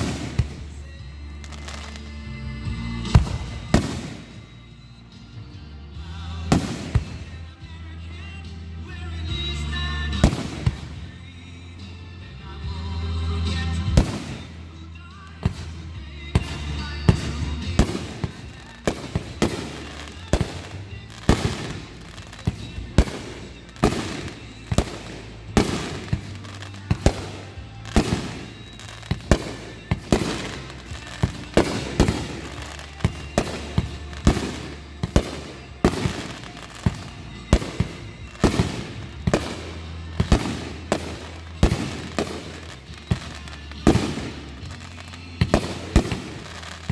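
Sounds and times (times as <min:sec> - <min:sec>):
fireworks bursting with sharp bangs: 0:00.0 - 0:07.8, 0:08.5 - 0:46.9
music: 0:00.0 - 0:46.9.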